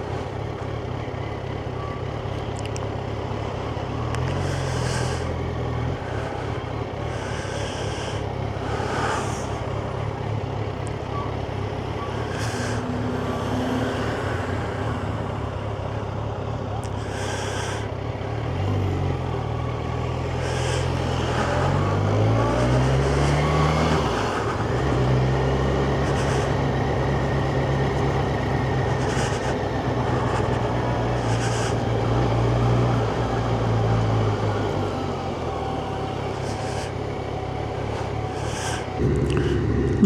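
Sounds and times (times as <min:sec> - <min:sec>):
motorcycle engine under way: 0:00.0 - 0:40.0.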